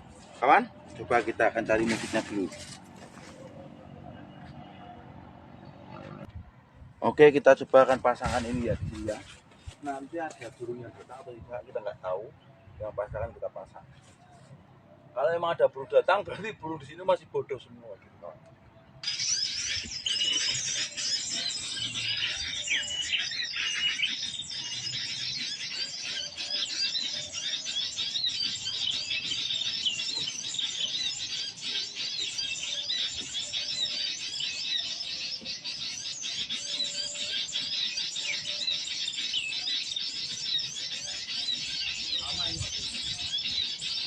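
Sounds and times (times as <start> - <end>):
recorded birdsong through speaker: 0.0 - 44.0.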